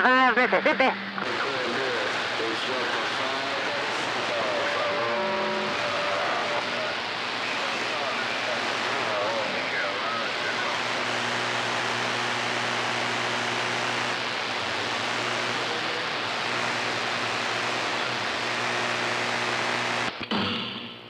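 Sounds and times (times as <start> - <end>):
mains hum: 0.0 - 21.0
radio receiver hiss: 1.0 - 20.3.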